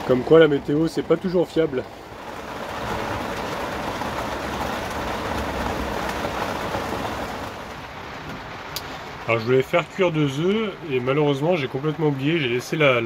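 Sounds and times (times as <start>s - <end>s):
heavy rain on vehicle roof: 0.0s - 13.0s.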